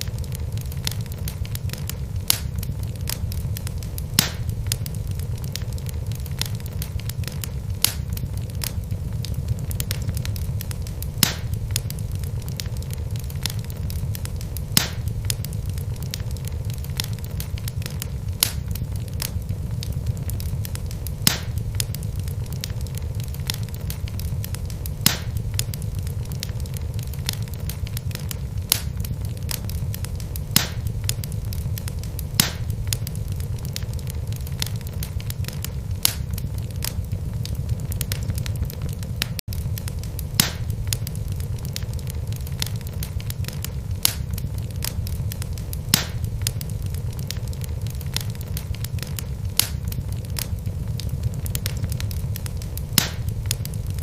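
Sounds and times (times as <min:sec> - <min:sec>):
fire rumbling in fireplace: 0:00.0 - 0:54.0
wood crackling and popping: 0:00.0 - 0:54.0.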